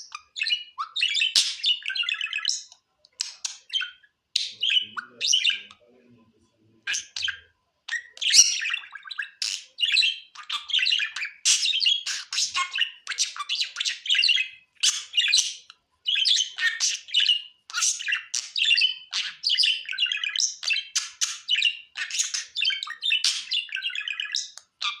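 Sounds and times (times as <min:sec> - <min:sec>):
budgies chattering: 0:00.0 - 0:25.0.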